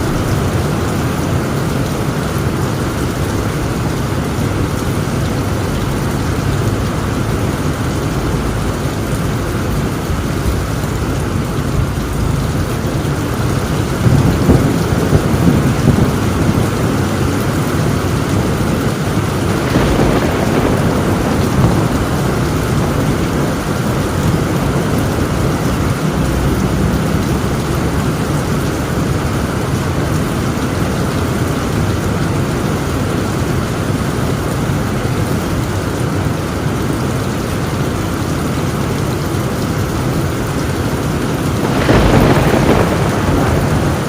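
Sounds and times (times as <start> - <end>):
low rumble of thunder: 0.0 - 34.2, 39.0 - 44.0
heavy rain on a tin roof: 0.0 - 44.0.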